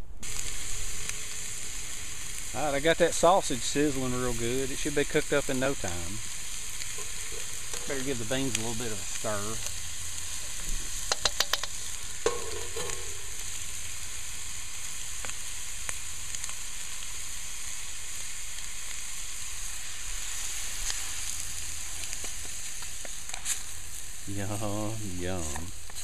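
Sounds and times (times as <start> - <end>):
sausage sizzling in a pan: 0.0 - 26.0.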